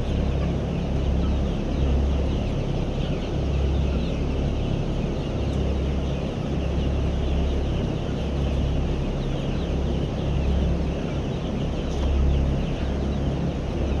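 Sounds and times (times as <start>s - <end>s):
chickens clucking: 0.0s - 4.6s, 5.4s - 14.0s.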